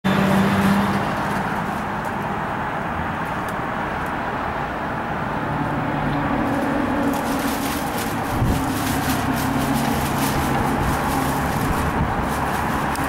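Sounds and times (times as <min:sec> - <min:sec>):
distant city rumble: 0:00.1 - 0:13.0.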